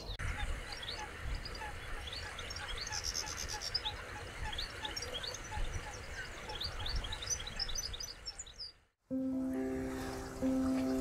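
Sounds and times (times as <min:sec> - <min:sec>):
small birds chirping: 0:00.0 - 0:08.9, 0:09.5 - 0:11.0.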